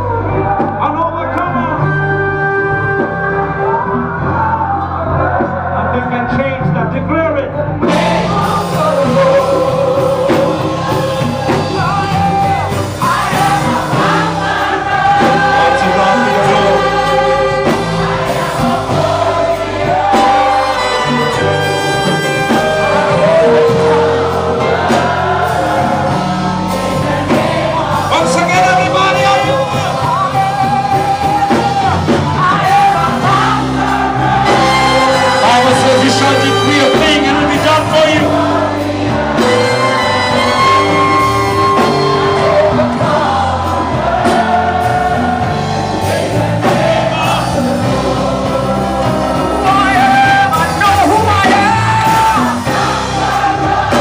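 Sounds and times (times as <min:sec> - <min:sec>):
bass accompaniment: 0:00.0 - 0:54.0
choir singing gospel: 0:00.0 - 0:54.0.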